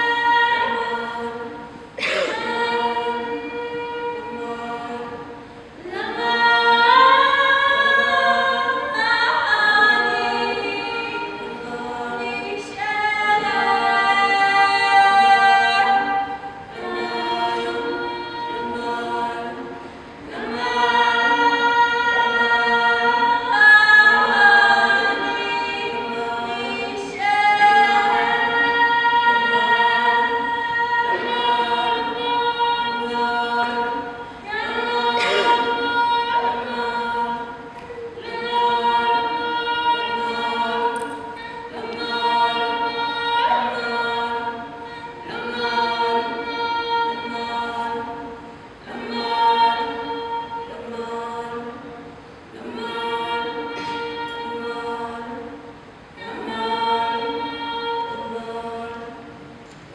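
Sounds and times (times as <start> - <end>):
women singing a cappella: 0.0 - 59.9.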